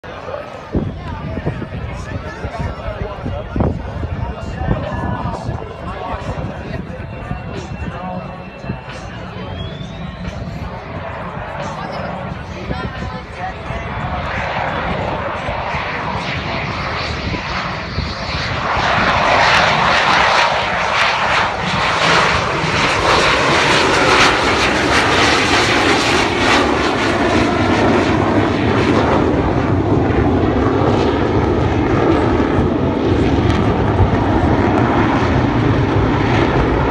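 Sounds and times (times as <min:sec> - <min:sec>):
fighter jet engine roaring: 0:00.0 - 0:36.9.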